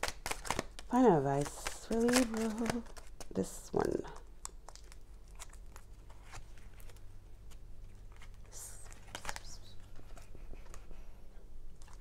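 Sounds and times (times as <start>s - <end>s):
cards rustling: 0.0s - 11.1s
steady low hum: 0.7s - 12.0s.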